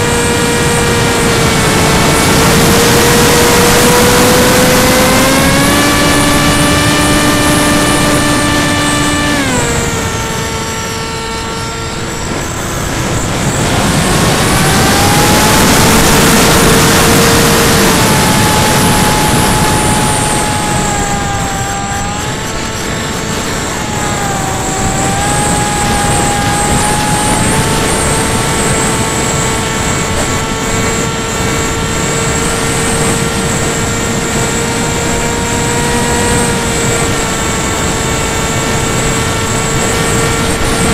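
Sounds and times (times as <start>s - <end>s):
electric motor propeller whine: 0.0s - 40.9s
wind rush on microphone: 0.0s - 40.9s.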